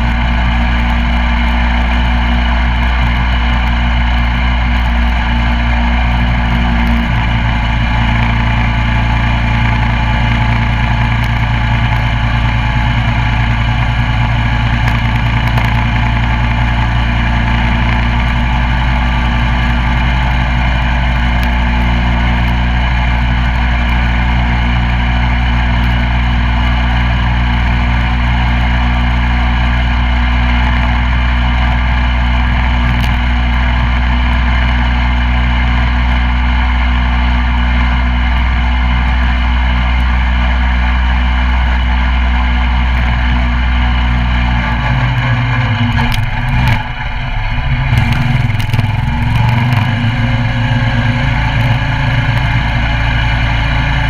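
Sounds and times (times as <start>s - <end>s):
mini bike engine running: 0.0s - 54.0s.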